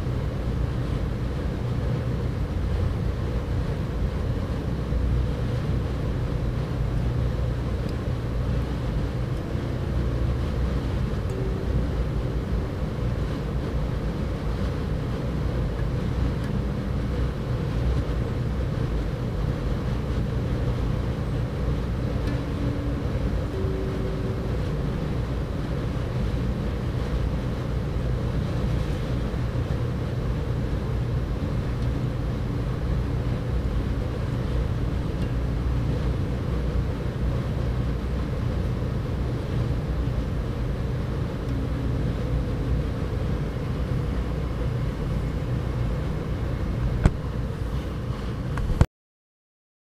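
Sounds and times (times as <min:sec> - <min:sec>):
faint hum: 0:00.0 - 0:48.9
steady low rumble: 0:00.0 - 0:48.9.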